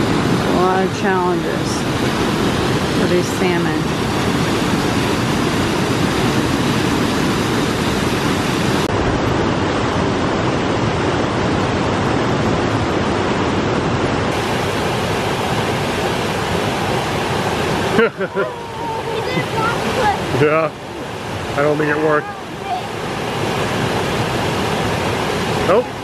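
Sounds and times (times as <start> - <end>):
water rushing over boulders: 0.0 - 26.0.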